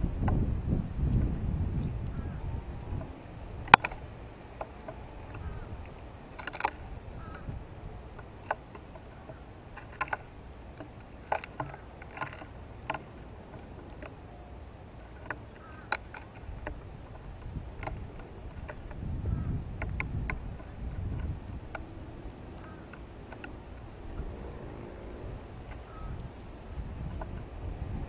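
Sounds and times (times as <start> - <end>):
low steady rumble: 0.0 - 28.0
birds pecking seed on wood: 3.0 - 26.4.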